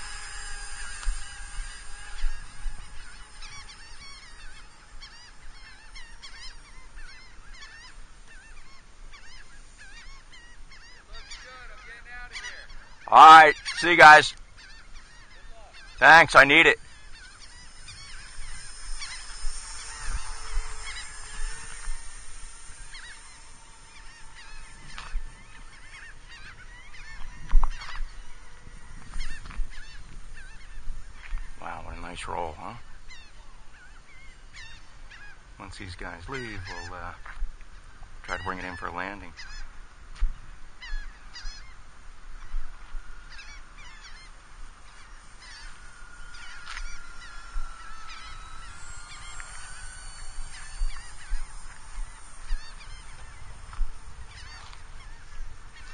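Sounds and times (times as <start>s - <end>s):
birds calling: 0.0s - 55.9s
model plane propellers whining: 0.0s - 55.9s.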